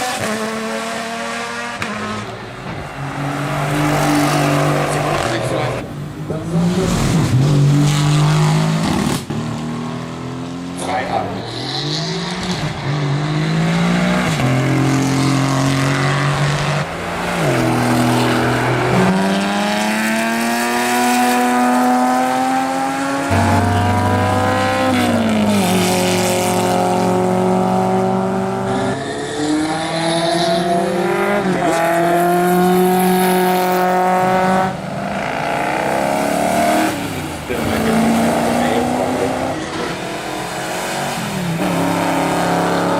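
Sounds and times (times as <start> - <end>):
racing car engines accelerating: 0.0 - 42.9.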